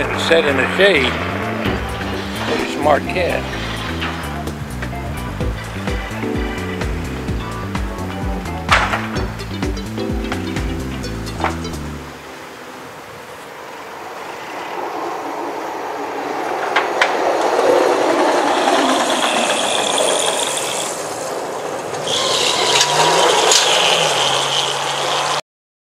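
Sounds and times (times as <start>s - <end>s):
vehicle passing close by: 0.0s - 10.2s, 10.8s - 25.4s.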